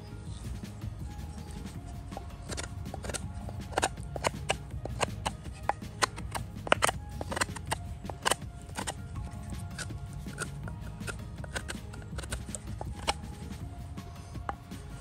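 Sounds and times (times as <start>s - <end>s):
knife shaving wood: 0.0s - 15.0s.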